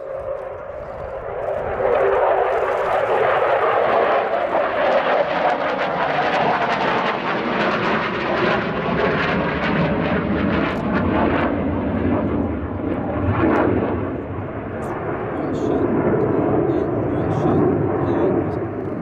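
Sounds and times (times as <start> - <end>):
jet flying past: 0.0 - 19.0.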